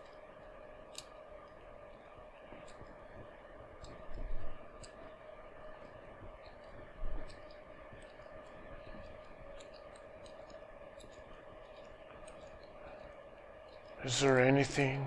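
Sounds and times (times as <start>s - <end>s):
faint clicks: 0.0s - 14.9s
steady hum: 0.0s - 15.0s.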